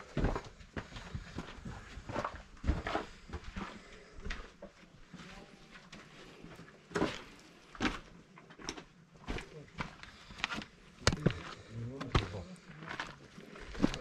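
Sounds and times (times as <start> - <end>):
footsteps on a trail: 0.0 - 14.0.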